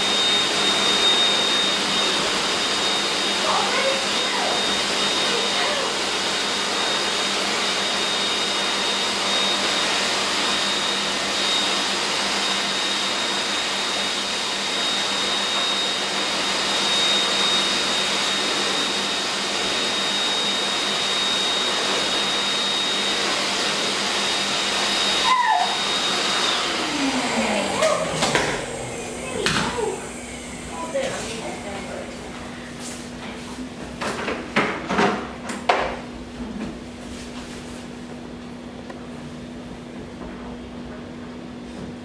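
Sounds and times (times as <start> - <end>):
pet dryer blowing air: 0.0 - 42.0.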